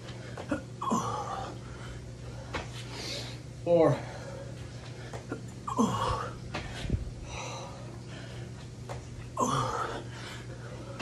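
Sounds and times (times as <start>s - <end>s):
man breathing hard: 0.0s - 8.6s, 9.4s - 11.0s.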